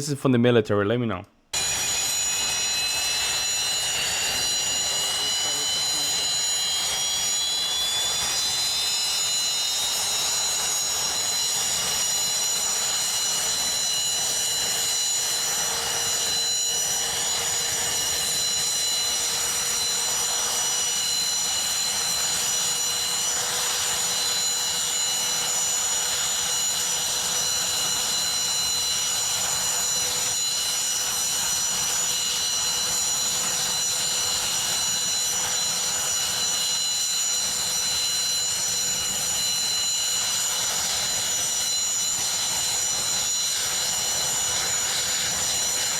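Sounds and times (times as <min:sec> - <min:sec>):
helicopter rotor rush: 0:01.5 - 0:45.9
helicopter turbine whine: 0:01.5 - 0:45.9.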